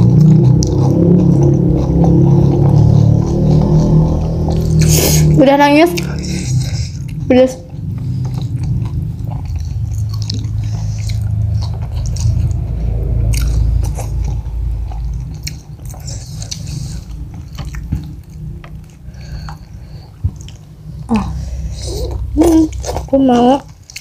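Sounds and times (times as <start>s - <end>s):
crunchy chewing of fried chicken: 0.0s - 5.4s, 6.0s - 21.8s, 22.7s - 24.0s
low rumble: 0.0s - 24.0s.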